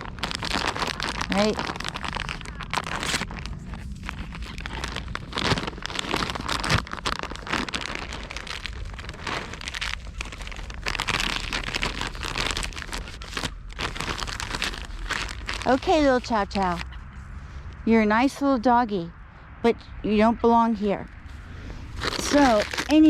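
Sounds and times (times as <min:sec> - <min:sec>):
crinkling crackling rustle: 0:00.0 - 0:18.5, 0:21.2 - 0:23.0.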